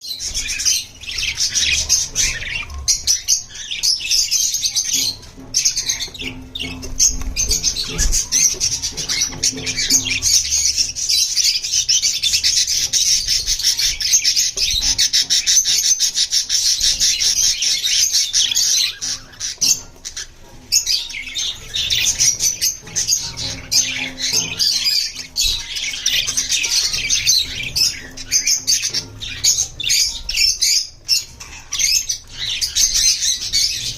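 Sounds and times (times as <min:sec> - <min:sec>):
budgies chirping and chattering: 0:00.0 - 0:33.9.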